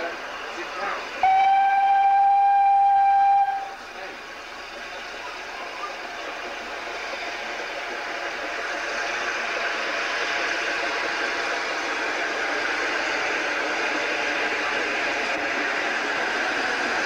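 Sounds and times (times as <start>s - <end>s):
steam train approaching: 0.0s - 17.0s.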